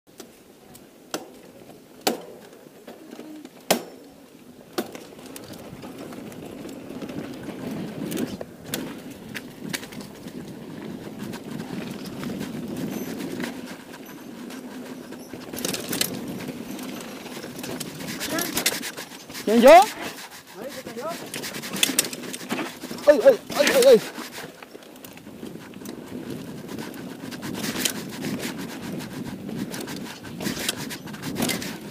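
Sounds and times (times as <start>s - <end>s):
bike tyres rushing on dirt: 4.5s - 31.9s
bike clicking and rattling: 4.7s - 31.9s.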